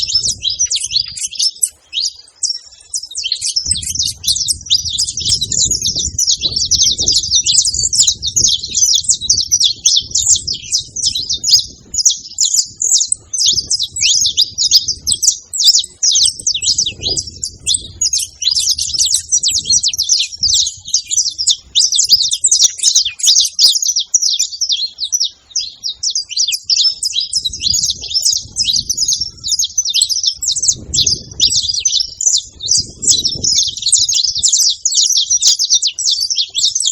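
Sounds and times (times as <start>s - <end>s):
finch chirping song: 0.0s - 36.9s.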